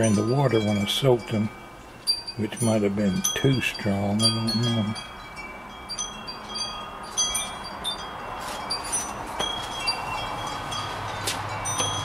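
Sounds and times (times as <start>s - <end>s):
wind chimes tinkling: 0.0s - 12.0s.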